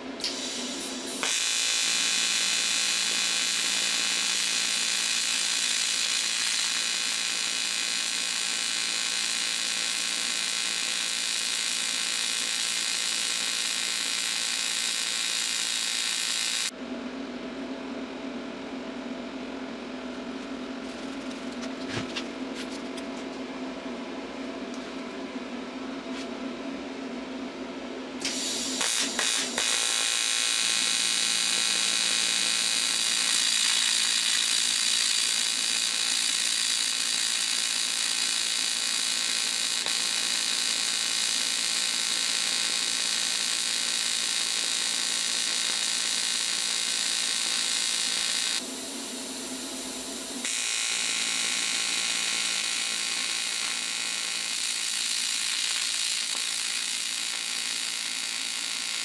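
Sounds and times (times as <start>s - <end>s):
welding arc buzzing: 0.0s - 16.8s, 28.2s - 59.0s.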